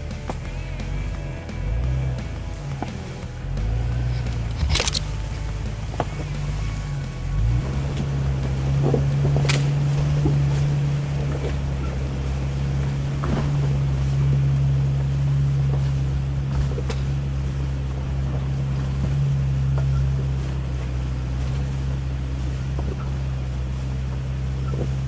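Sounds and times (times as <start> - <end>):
car engine drone: 0.0 - 25.0
road noise: 0.0 - 25.0.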